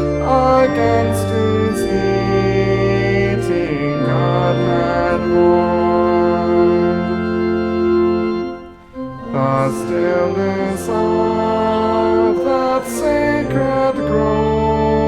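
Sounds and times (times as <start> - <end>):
church organ playing a hymn: 0.0 - 15.0
congregation singing: 0.0 - 15.0.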